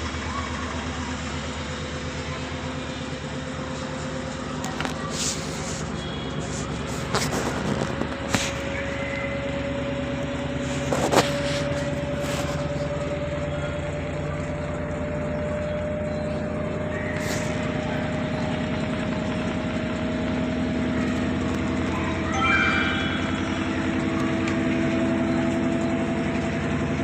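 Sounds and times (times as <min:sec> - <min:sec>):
washing machine motor whine: 0:00.0 - 0:27.0.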